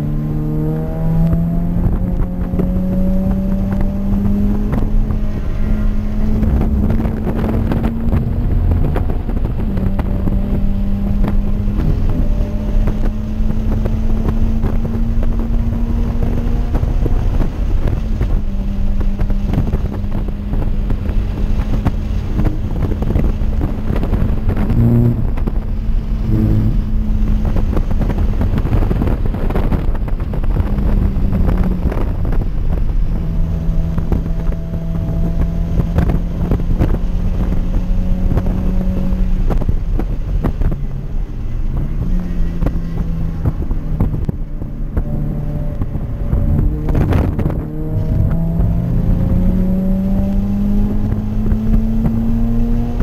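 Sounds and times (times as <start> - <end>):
car engine running hard: 0.0 - 53.0
wind and road noise: 0.0 - 53.0.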